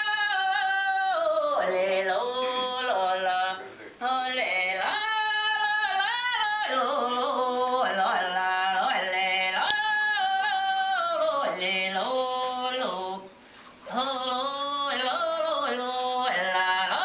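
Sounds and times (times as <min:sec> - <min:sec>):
person singing long held notes: 0:00.0 - 0:17.0.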